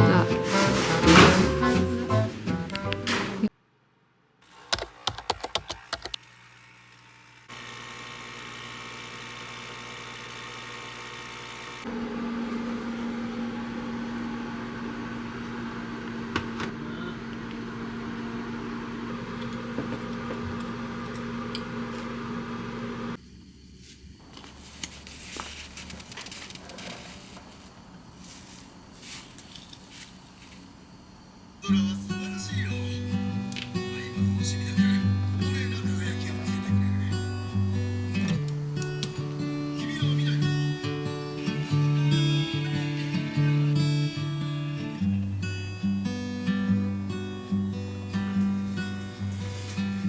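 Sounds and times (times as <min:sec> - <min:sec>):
low mechanical hum: 0:06.1 - 0:50.0.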